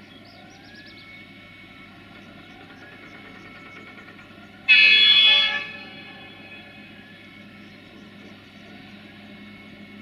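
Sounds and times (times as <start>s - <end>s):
electric locomotive humming: 0.0s - 10.0s.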